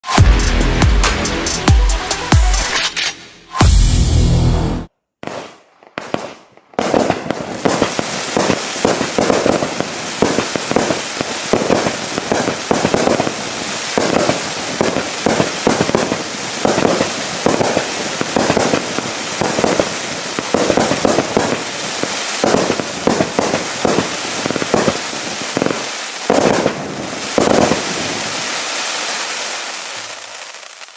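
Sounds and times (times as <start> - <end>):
fireworks popping and banging: 0.0 - 3.1, 5.2 - 30.9.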